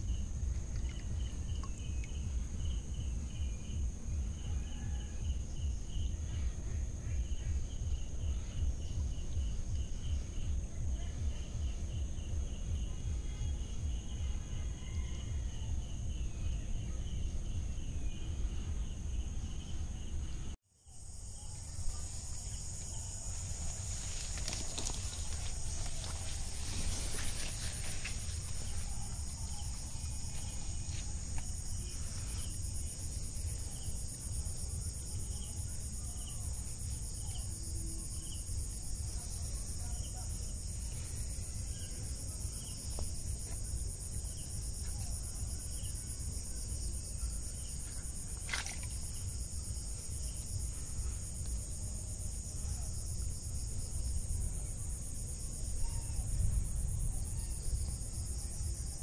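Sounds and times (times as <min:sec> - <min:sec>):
crickets and night insects: 0:00.0 - 0:59.0.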